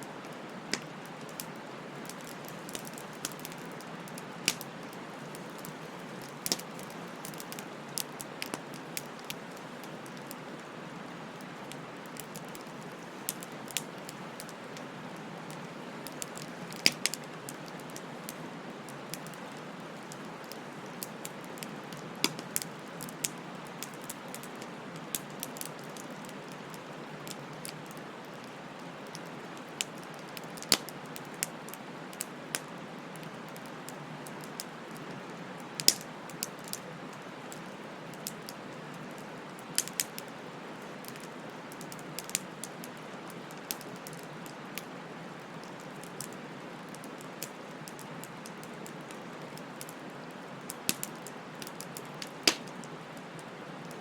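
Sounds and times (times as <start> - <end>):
bonfire crackling and hissing: 0.0 - 54.0.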